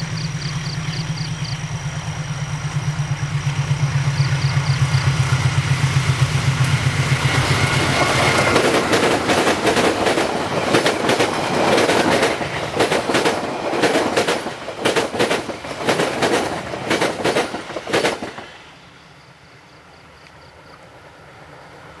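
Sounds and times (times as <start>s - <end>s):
train wheels clattering over rail joints: 0.6s - 18.7s.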